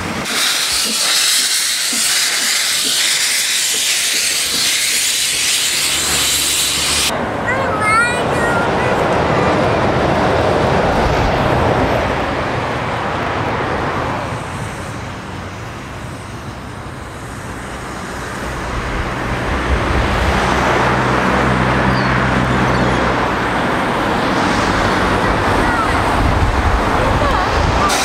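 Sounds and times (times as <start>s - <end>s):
steam locomotive rushing noise: 0.0s - 28.0s.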